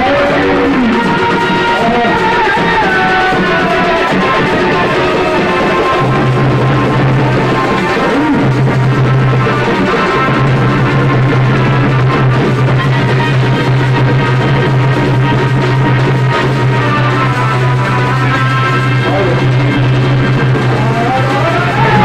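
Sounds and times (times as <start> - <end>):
loud dance music over a drone: 0.0 - 22.0.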